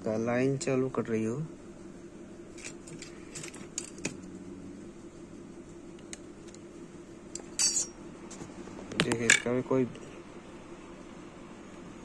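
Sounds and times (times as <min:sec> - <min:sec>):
computer fan hum: 0:00.0 - 0:12.0.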